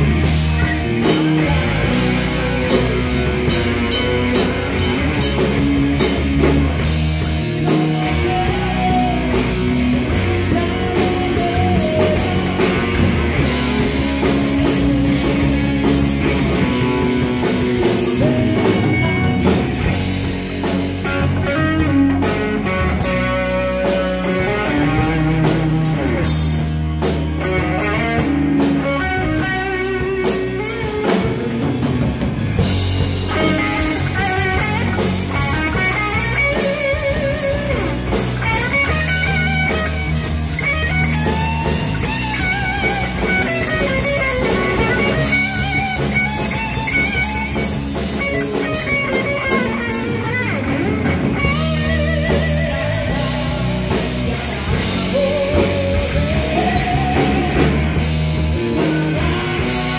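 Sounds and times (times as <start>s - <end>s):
bass guitar: 0.0s - 59.9s
drum kit with cymbals: 0.0s - 59.9s
electric guitars: 0.0s - 59.9s.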